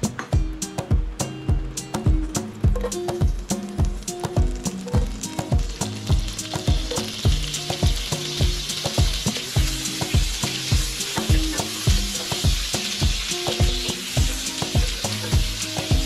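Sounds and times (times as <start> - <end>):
background music with steady beat: 0.0 - 16.0
garlic sizzling in a wok: 0.0 - 16.0.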